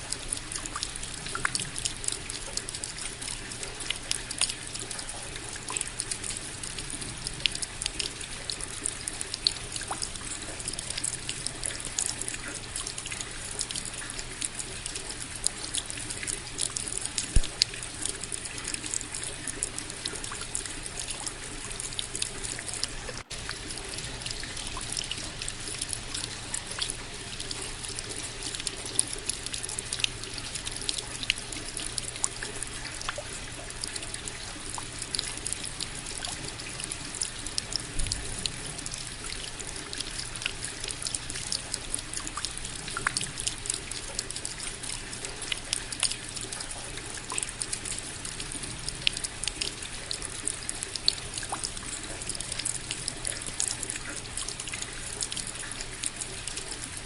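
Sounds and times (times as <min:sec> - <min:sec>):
steady rain hiss: 0:00.0 - 0:46.5
sharp close drips: 0:00.0 - 0:57.0.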